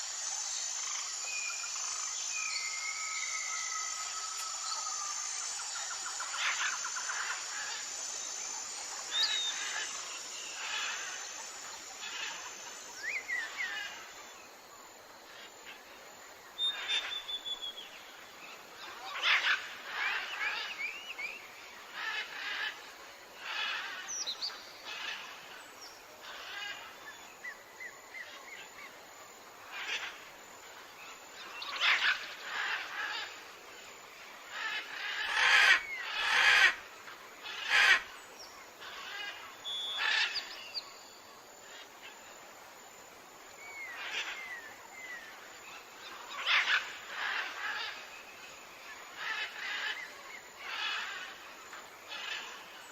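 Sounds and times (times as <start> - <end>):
forest birds calling: 0.0 - 14.5, 16.6 - 52.9.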